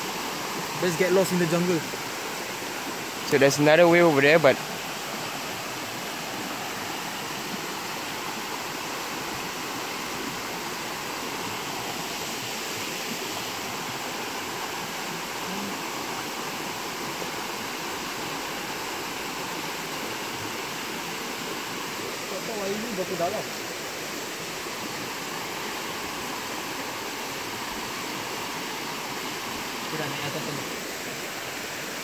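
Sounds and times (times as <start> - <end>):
stream rushing over stones: 0.0 - 32.0.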